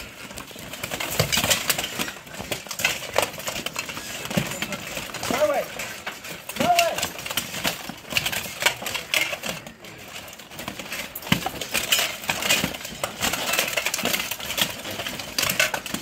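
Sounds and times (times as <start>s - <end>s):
plate armor clanking and scraping: 0.0s - 16.0s.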